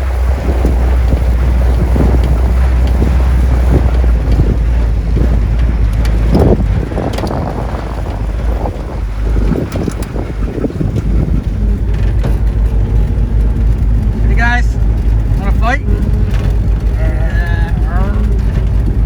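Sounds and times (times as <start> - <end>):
knocks and rattles: 0.0 - 19.0
vehicle driving rumble: 0.0 - 19.0
wind buffeting microphone: 0.0 - 19.0.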